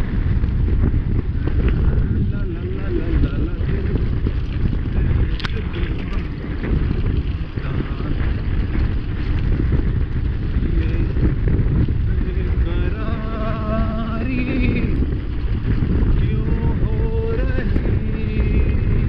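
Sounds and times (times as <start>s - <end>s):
tyre noise on asphalt: 0.0s - 19.0s
wind buffeting microphone: 0.0s - 19.0s.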